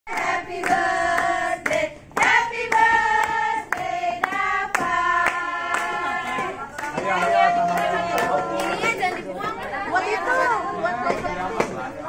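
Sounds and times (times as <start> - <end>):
women singing together: 0.1 - 11.4.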